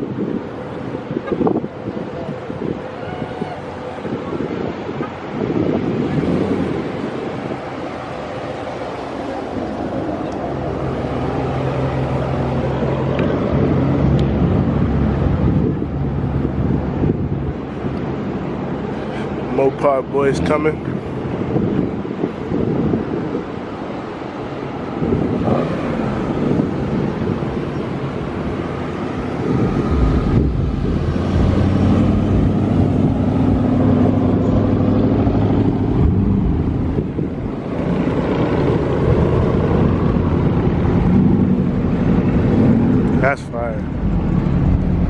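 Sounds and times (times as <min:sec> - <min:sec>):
car engines running: 0:00.0 - 0:45.0.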